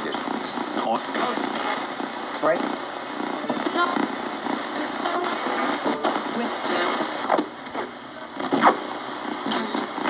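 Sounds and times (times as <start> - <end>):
static hiss: 0.0 - 10.0.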